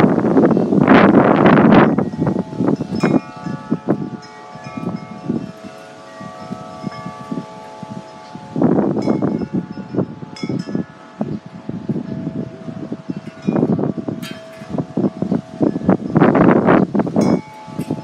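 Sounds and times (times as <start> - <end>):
wind buffeting microphone: 0.0 - 18.0
wind chimes ringing: 0.1 - 18.0.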